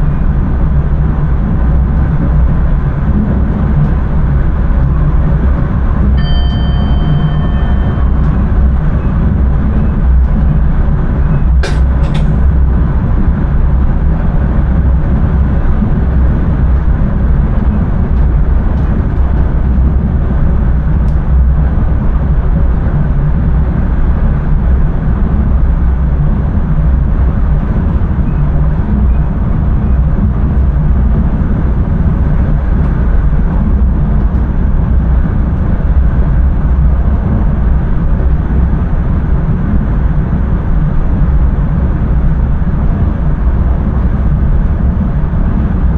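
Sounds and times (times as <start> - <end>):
train rumbling along track: 0.0 - 45.9.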